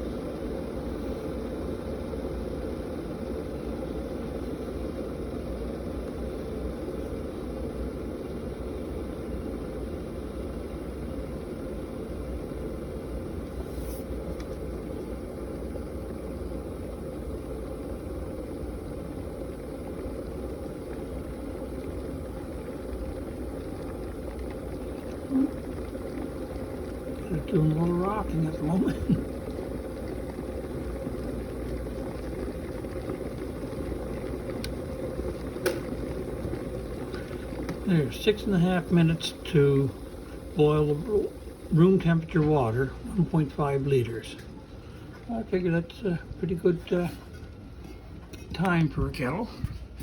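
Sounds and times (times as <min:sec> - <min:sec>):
electric kettle heating water: 0:00.0 - 0:50.0.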